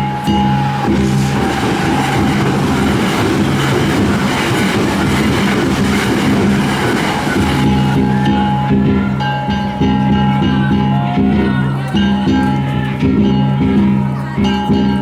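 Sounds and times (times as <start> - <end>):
steady music: 0.0 - 13.7
train wheels rattling on rails: 0.0 - 15.0.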